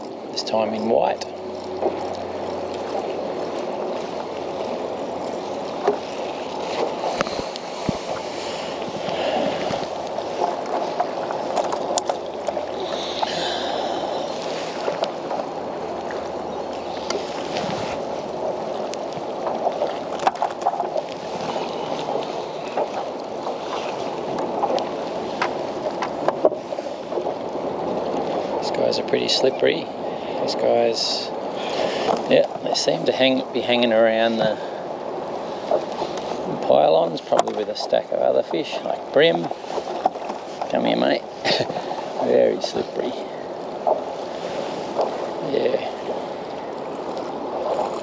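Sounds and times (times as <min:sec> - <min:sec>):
waves lapping against kayak hull: 0:00.0 - 0:48.0.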